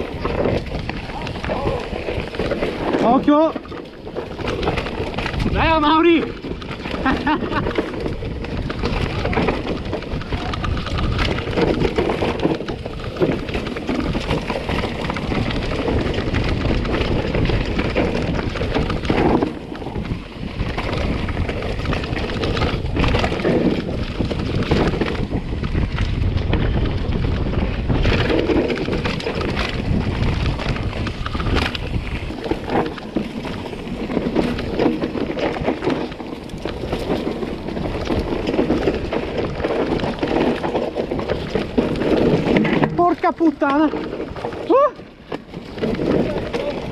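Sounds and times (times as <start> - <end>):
bike knocking and rattling: 0.0 - 46.9
tyres rolling on dirt and rock: 0.0 - 46.9
wind buffeting microphone: 0.0 - 46.9.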